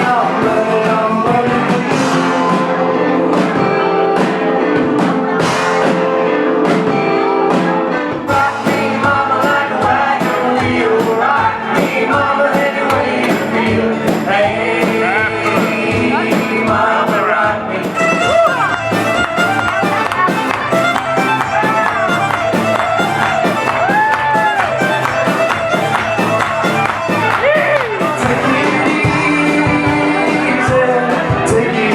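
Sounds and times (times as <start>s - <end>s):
band playing: 0.0s - 31.9s
lead singer: 0.0s - 31.9s.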